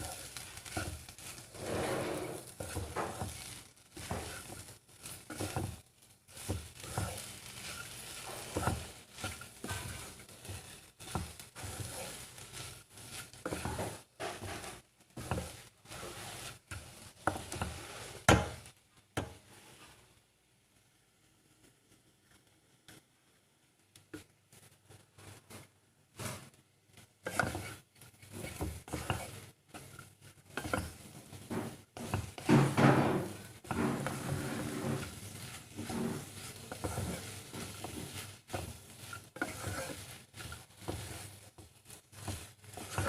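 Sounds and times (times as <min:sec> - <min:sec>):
spatula scraping and knocking pan: 0:00.0 - 0:20.0, 0:26.2 - 0:43.0
light sizzle: 0:00.0 - 0:43.0.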